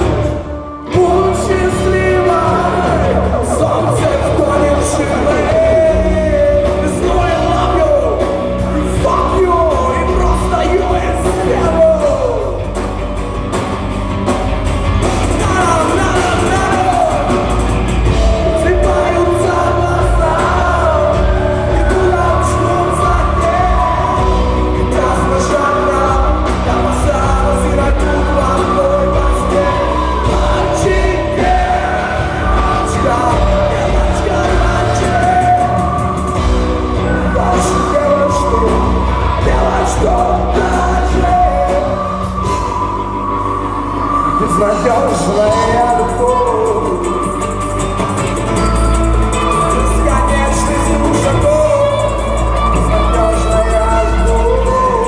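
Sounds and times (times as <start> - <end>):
rock band playing live: 0.0 - 55.0
singer singing and yelling: 0.0 - 55.0.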